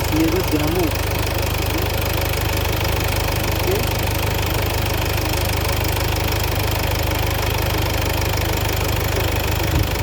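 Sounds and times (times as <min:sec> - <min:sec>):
car engine idling with knocking: 0:00.0 - 0:10.0.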